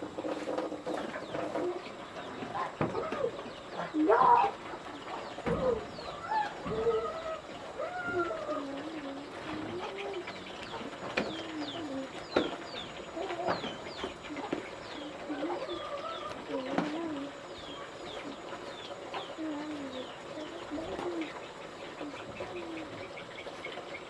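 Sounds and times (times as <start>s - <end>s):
small birds chirping: 0.0s - 24.0s
low wavering fowl calls: 0.9s - 24.0s.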